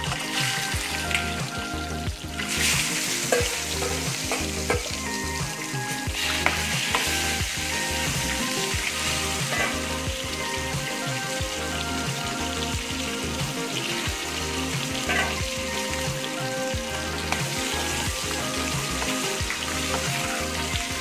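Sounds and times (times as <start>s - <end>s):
eggs sizzling in hot oil: 0.0s - 21.0s.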